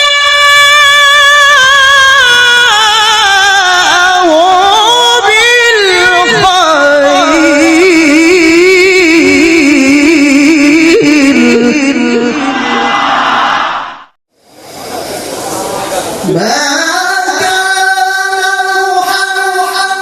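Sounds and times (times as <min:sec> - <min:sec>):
man chanting melodic recitation: 0:00.0 - 0:12.4, 0:16.2 - 0:20.0.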